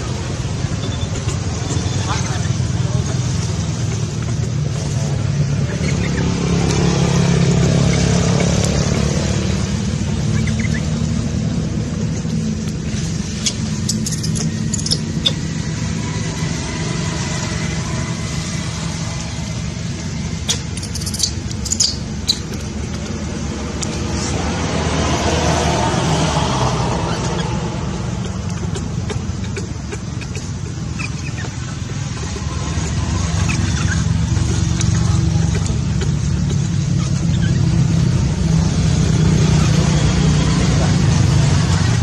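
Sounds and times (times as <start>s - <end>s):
engine low rumble: 0.0s - 42.0s.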